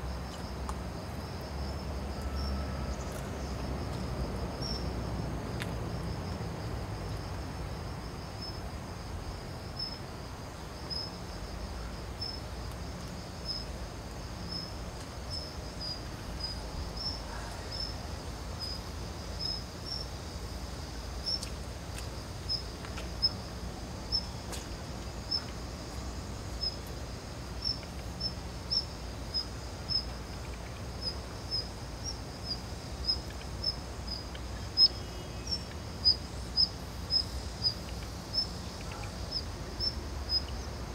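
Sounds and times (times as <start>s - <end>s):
insect chirping: 0.0s - 40.9s.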